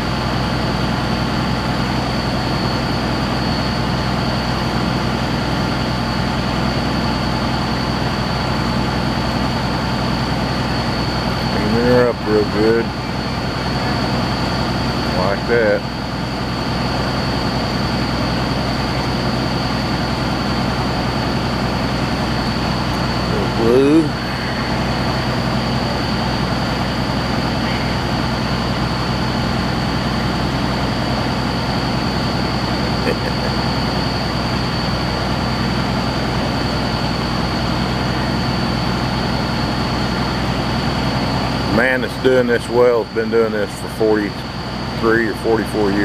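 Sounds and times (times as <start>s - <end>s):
engine droning: 0.0s - 46.0s
high-pitched whine: 0.0s - 46.0s.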